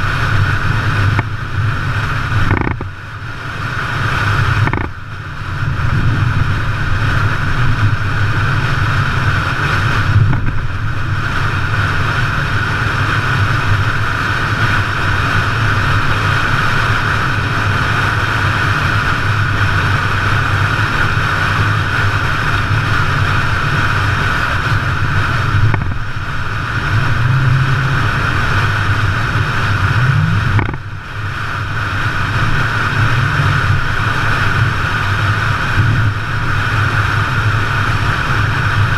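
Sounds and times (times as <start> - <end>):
vehicle driving on dirt road: 0.0 - 38.9.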